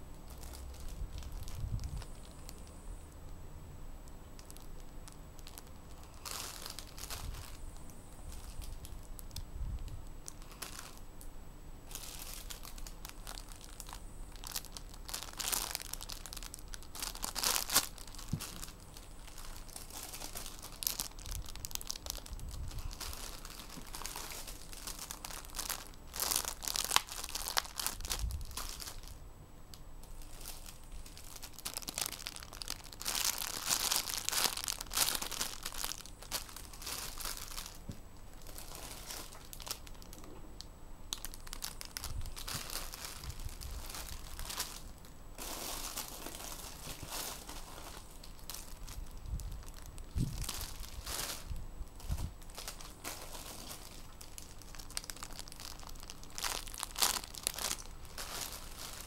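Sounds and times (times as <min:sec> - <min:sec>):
plastic bags crinkling: 0:00.0 - 0:03.1, 0:04.2 - 0:11.1, 0:11.9 - 0:29.2, 0:30.0 - 0:40.3, 0:41.1 - 0:59.0.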